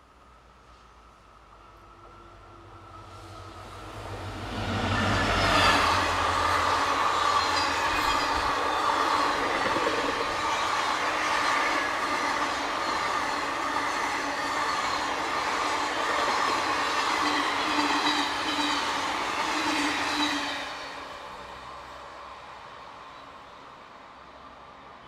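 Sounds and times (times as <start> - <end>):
train coaches passing: 0.2 - 25.0.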